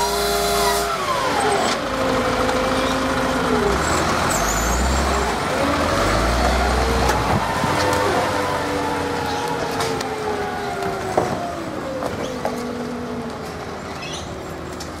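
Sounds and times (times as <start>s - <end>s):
garbage truck diesel engine: 0.0s - 15.0s.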